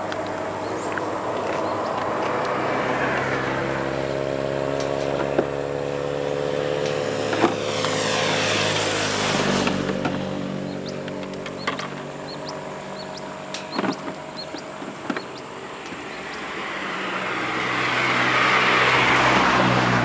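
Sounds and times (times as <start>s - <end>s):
vehicle engine running: 0.0s - 19.6s
vehicle passing: 0.0s - 20.0s.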